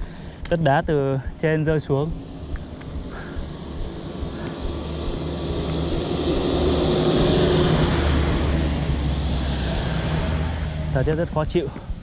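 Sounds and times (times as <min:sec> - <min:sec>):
minibus engine passing: 0:01.3 - 0:12.0.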